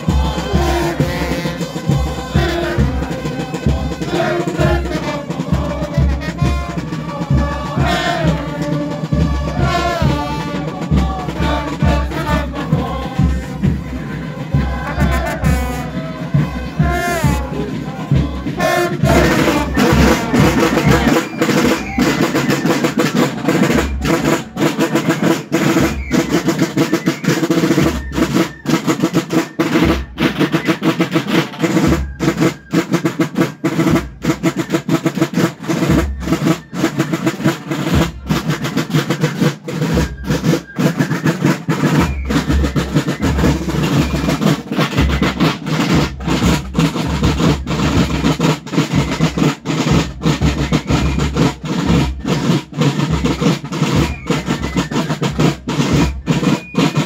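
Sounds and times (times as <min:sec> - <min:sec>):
marching drums: 0:00.0 - 0:57.0
snare drum rolls: 0:00.0 - 0:57.0.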